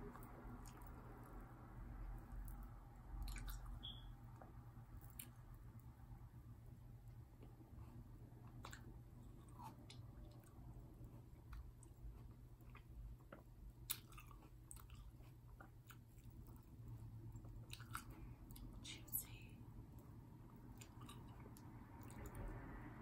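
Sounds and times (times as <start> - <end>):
chewing grapes: 0.1 - 5.9, 7.3 - 18.9, 19.8 - 22.6.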